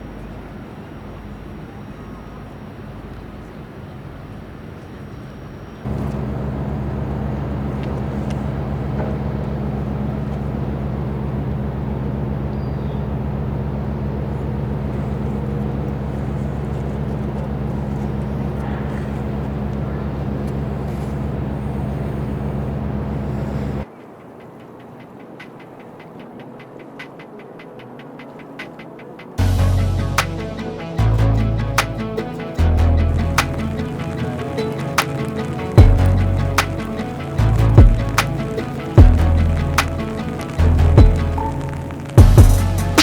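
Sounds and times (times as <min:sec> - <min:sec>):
diesel engine droning: 0:00.0 - 0:23.9, 0:29.4 - 0:43.0.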